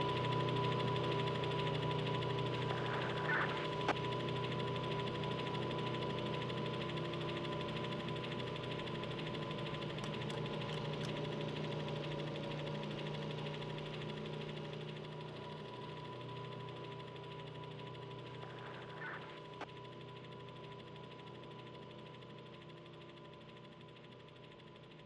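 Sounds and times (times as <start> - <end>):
mechanical hum with high whine: 0.0 - 25.0.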